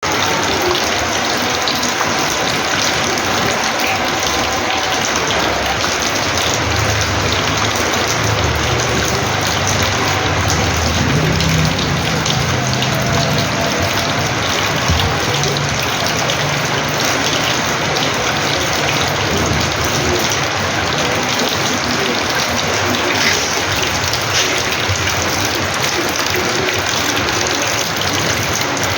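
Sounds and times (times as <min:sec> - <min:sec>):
rainwater pouring and splashing: 0:00.0 - 0:28.9.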